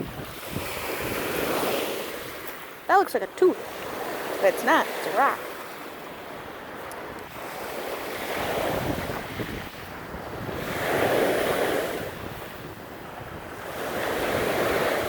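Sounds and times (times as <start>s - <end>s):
waves washing onto rocky beach: 0.0s - 15.0s
wind buffeting microphone: 0.0s - 15.0s.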